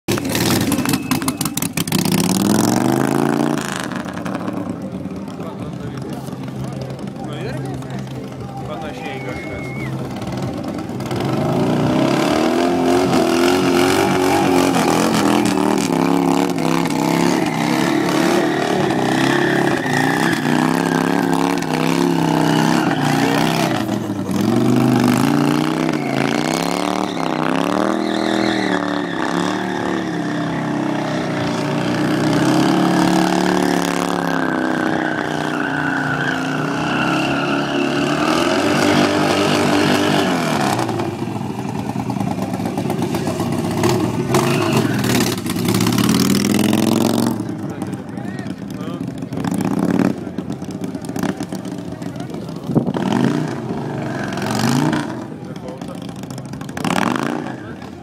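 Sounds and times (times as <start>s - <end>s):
motorcycle engine revving: 0.1s - 58.0s.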